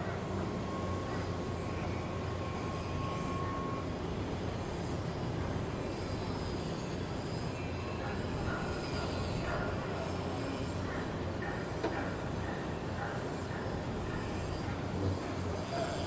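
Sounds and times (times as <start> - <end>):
heavy machinery rumble: 0.0 - 16.0
thin whining tone: 0.0 - 16.0.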